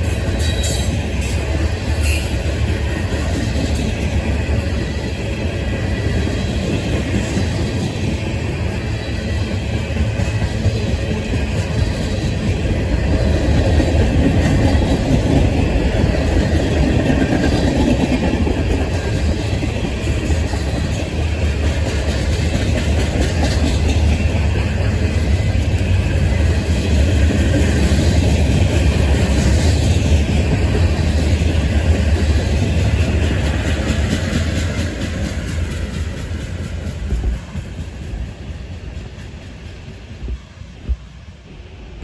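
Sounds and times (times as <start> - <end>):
freight train wheels rumbling on rails: 0.0 - 42.0.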